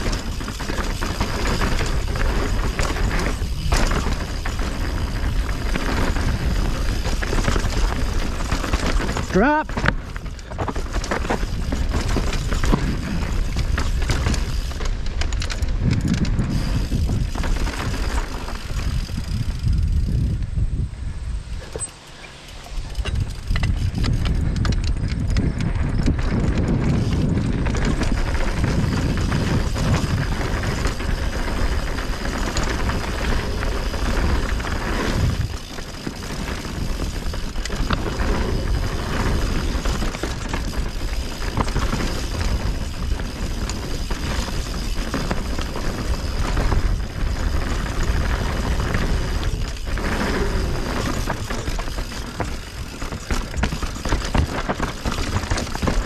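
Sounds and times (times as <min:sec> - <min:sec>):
bike rattling over rocks: 0:00.0 - 0:20.5, 0:21.4 - 0:56.0
wind and tyre rumble: 0:00.0 - 0:56.0.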